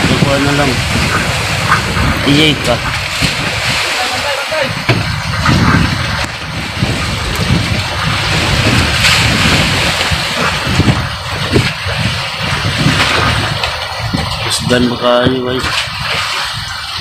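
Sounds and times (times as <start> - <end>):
waves and water splashing: 0.0 - 17.0
wind buffeting microphone: 0.0 - 17.0.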